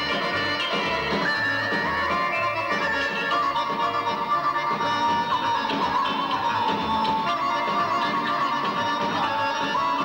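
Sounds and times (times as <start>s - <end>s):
folk band melody: 0.0s - 10.0s.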